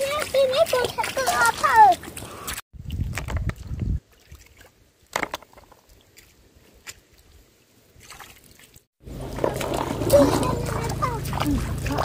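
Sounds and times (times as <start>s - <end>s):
water splashing: 0.0s - 4.9s, 5.5s - 12.0s.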